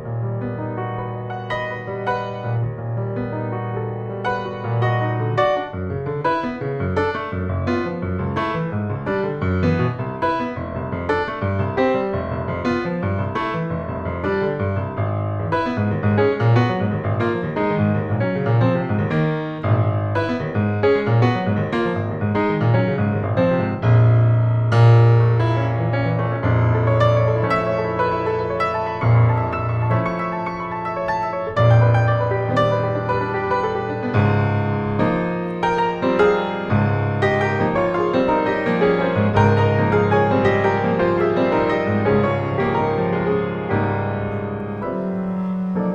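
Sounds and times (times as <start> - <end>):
jazz piano: 0.0 - 45.9.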